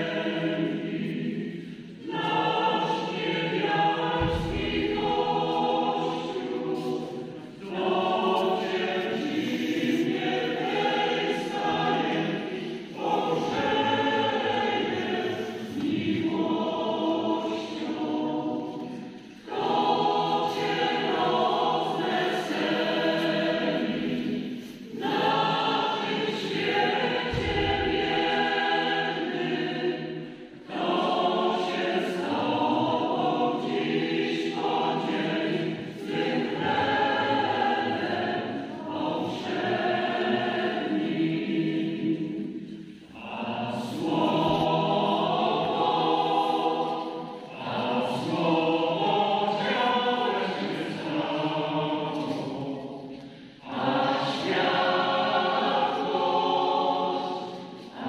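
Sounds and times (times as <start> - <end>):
church choir singing a carol: 0.0 - 58.0.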